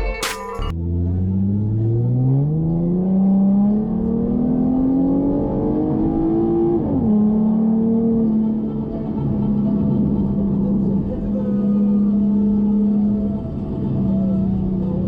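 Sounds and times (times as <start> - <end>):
car engine accelerating: 0.7 - 15.0.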